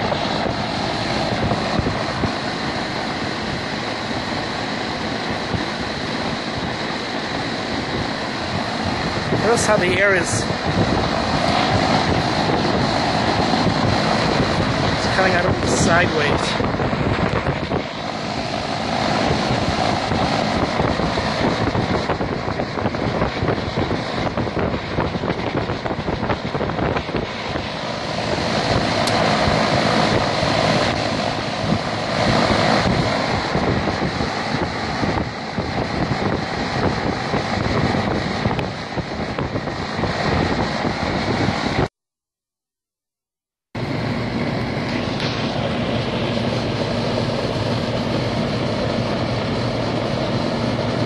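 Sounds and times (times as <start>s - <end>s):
air conditioner fan running: 0.0s - 41.9s, 43.8s - 51.0s
wind buffeting microphone: 0.0s - 41.9s.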